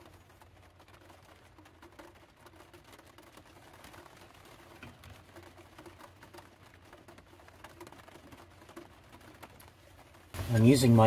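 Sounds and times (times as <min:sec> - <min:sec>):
rain pattering on a roof: 0:00.0 - 0:11.0.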